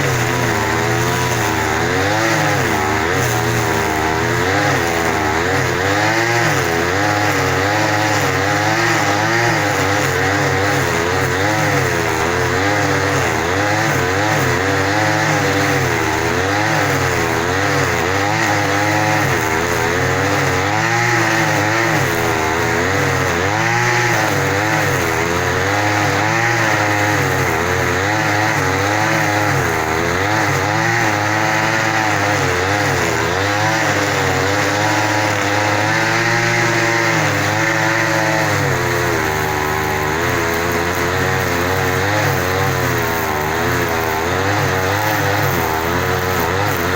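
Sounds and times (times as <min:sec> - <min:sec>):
engine revving: 0:00.0 - 0:46.9.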